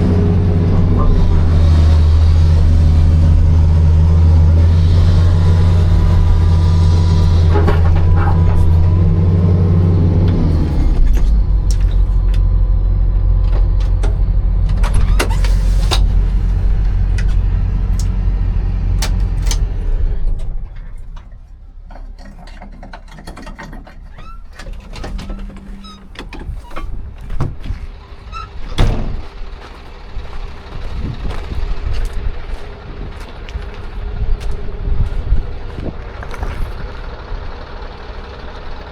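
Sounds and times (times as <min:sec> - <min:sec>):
diesel engine low rumble: 0:00.0 - 0:38.9.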